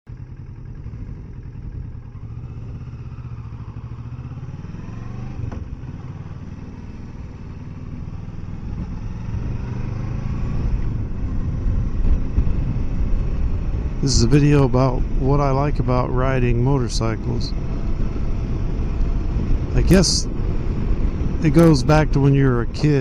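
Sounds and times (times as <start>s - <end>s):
motorcycle engine accelerating: 0.1s - 23.0s.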